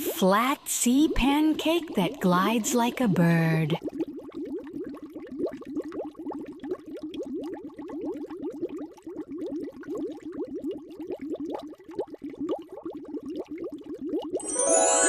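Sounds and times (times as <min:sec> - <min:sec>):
underwater bubbling: 0:00.0 - 0:14.4.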